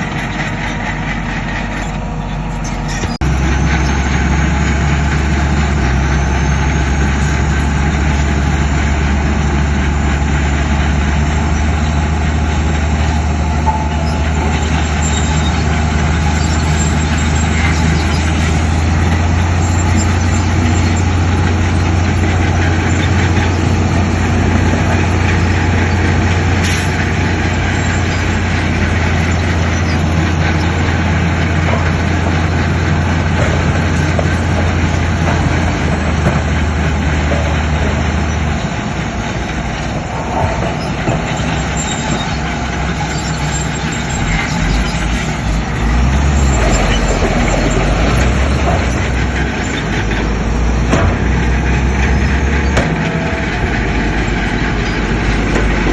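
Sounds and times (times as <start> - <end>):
heavy diesel machinery droning: 0.0 - 55.9.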